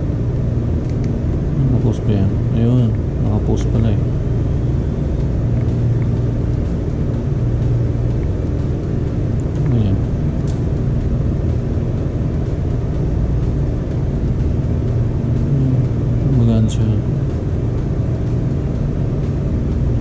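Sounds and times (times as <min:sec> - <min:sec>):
bicycle wheel spinning hum: 0:00.0 - 0:20.0.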